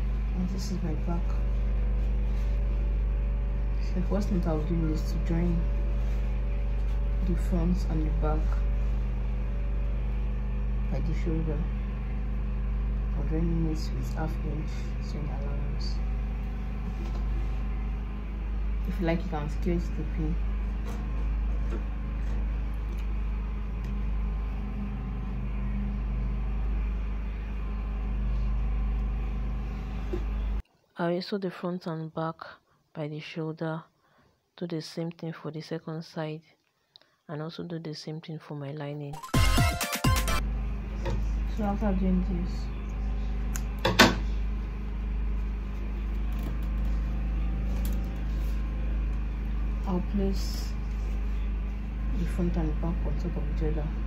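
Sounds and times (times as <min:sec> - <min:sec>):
low mechanical motor drone: 0:00.0 - 0:30.6, 0:40.3 - 0:54.0
machine humming: 0:00.0 - 0:30.6, 0:39.2 - 0:54.0.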